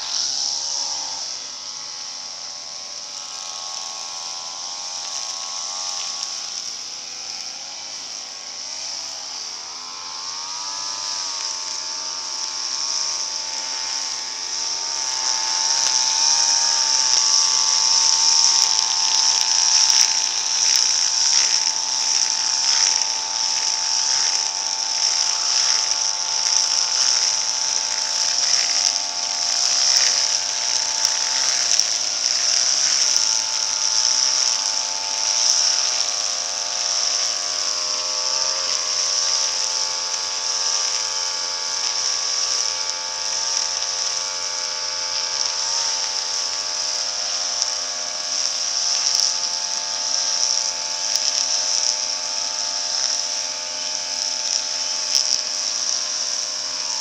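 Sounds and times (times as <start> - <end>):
brush cutter engines whining: 0.0 - 57.0.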